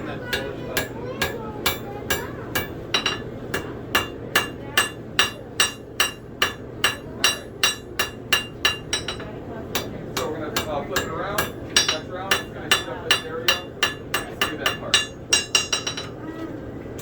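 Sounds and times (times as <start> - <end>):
hammer striking blade on anvil: 0.3 - 16.2.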